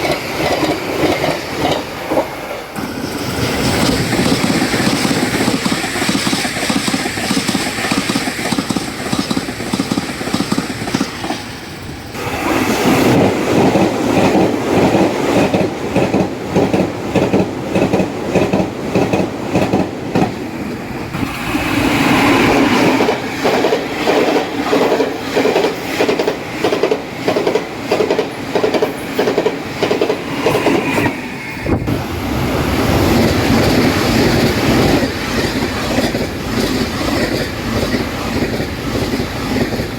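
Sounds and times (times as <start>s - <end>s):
train wheels clacking over rail joints: 0.0s - 12.2s, 12.8s - 32.0s, 32.8s - 39.9s
train passing at high speed: 0.0s - 39.9s.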